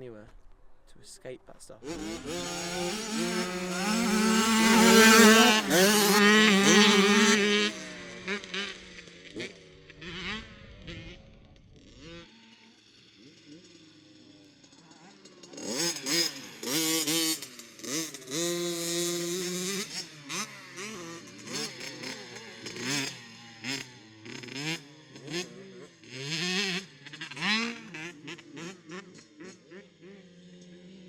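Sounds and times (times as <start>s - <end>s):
motocross bike engines revving: 1.7s - 31.0s.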